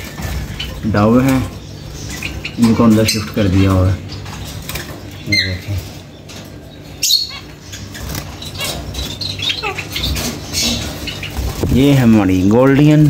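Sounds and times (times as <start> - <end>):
bird chirp: 0.0 - 13.0
birds fluttering in cage: 0.0 - 13.0.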